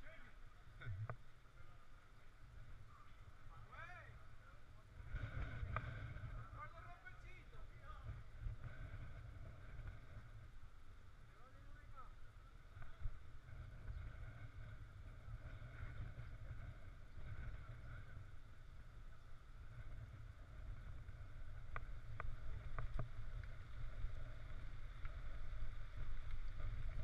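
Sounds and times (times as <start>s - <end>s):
wind buffeting microphone: 4.8s - 10.7s, 11.3s - 27.0s.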